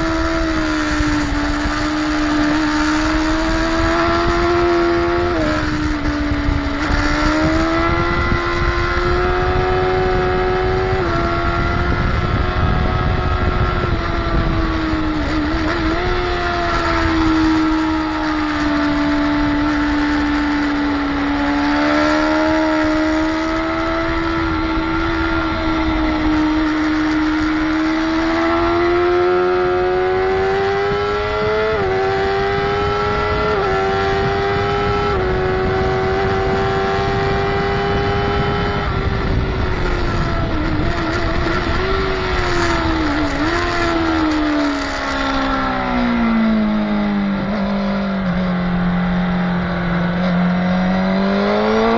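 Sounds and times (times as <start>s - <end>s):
motorcycle engine revving: 0.0s - 51.9s
wind rush on microphone: 0.0s - 51.9s.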